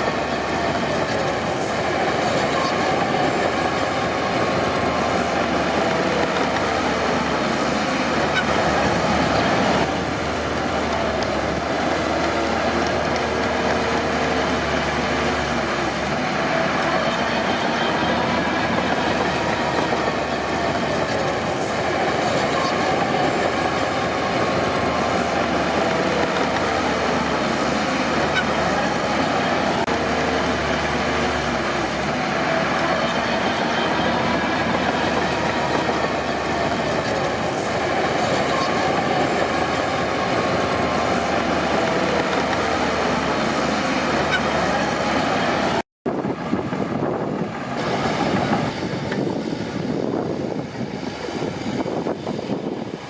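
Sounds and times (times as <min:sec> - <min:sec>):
bulldozer engine under load: 0:00.0 - 0:53.0
steel tracks clattering and squealing: 0:00.0 - 0:53.0.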